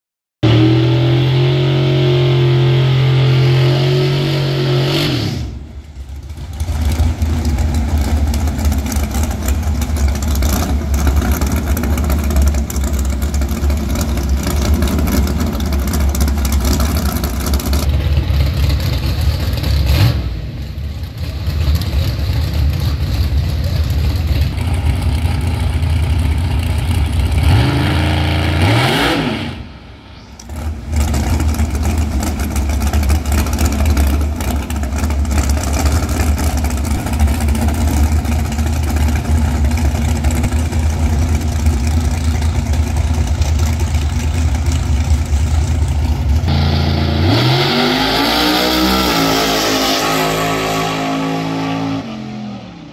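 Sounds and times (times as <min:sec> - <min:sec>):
drag race car engine revving: 0:00.4 - 0:52.9.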